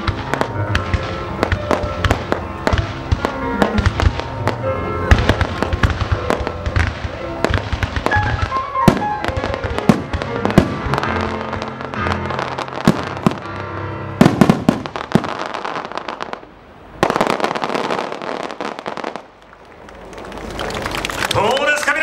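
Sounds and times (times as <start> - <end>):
fireworks banging: 0.0 - 22.0
fireworks crackling: 0.0 - 22.0
music soundtrack: 0.0 - 22.0.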